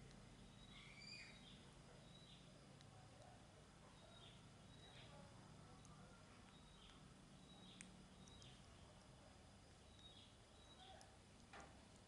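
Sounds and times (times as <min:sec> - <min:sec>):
faint high chirps: 0:00.0 - 0:11.2.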